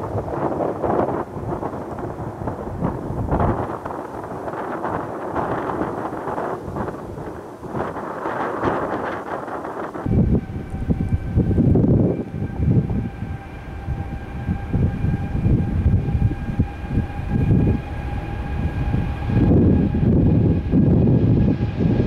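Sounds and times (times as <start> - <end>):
jet engines rumbling and whining: 0.0 - 22.0
wind buffeting microphone: 0.0 - 22.0.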